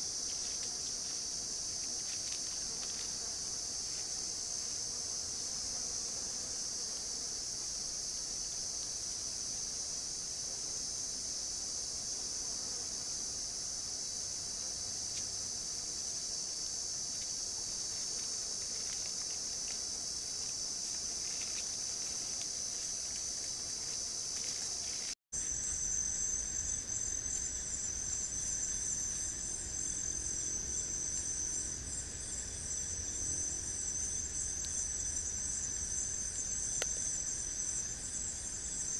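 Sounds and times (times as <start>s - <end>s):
high-pitched insect chorus: 0.0s - 6.0s, 6.6s - 38.9s
pulsing higher insect chorus: 0.0s - 38.9s.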